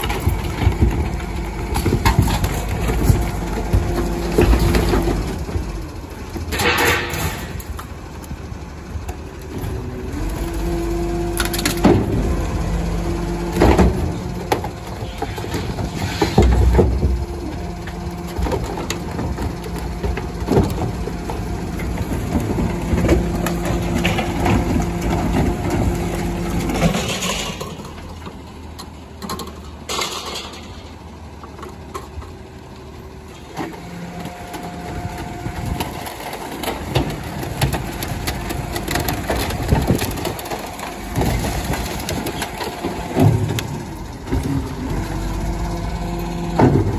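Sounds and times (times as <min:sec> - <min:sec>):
truck engine and hydraulics: 0:00.0 - 0:46.9.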